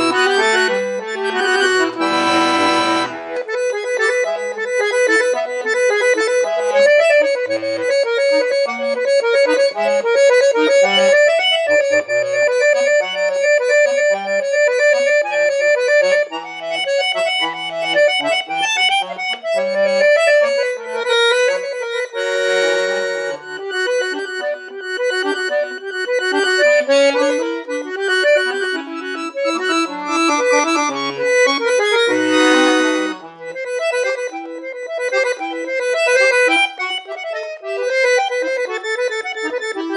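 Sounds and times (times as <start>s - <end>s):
accordion melody: 0.0s - 39.9s
loud sustained accordion chords: 0.0s - 39.9s.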